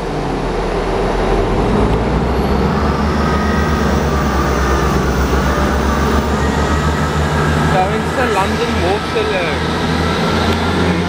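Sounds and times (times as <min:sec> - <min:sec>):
diesel engines rumbling: 0:00.0 - 0:11.0.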